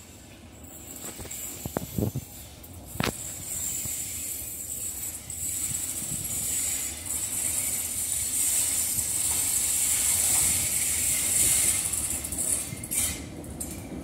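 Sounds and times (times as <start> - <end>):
locomotive running gear rumble and clank: 0.4 - 14.0.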